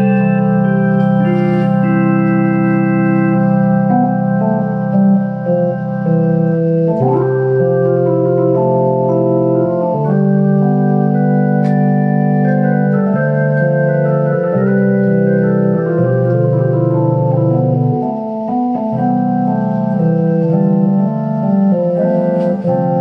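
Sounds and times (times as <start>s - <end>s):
organ playing chords: 0.0s - 23.0s.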